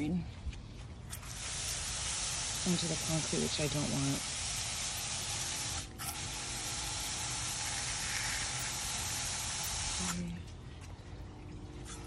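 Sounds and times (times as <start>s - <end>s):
garden hose spraying water: 0.9s - 12.0s.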